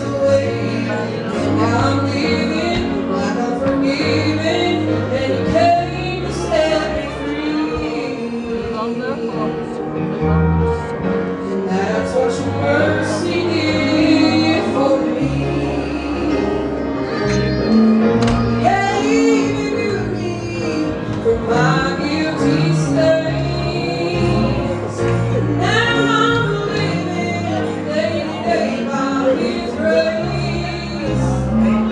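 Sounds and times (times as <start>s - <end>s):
woman singing slow song: 0.0s - 10.0s, 11.5s - 17.8s, 18.5s - 31.9s
instrumental accompaniment: 0.0s - 31.9s.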